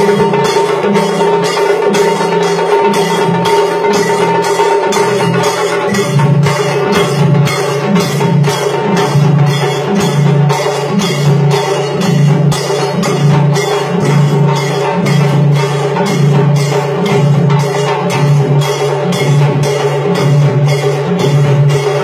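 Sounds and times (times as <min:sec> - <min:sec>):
large bass drum: 0:00.0 - 0:22.0
tassa drums: 0:00.0 - 0:22.0.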